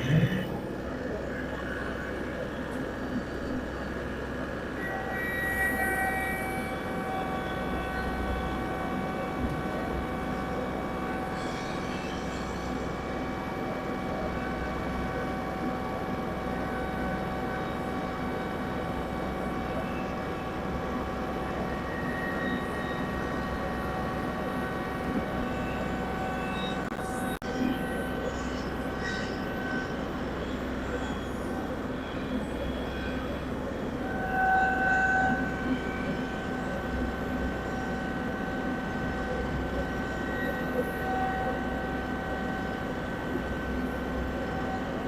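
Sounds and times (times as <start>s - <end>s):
rotary cutter whine: 4.6s - 45.0s.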